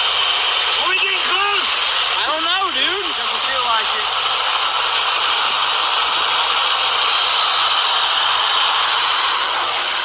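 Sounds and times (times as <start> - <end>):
chainsaw cutting tree trunk: 0.0 - 10.0.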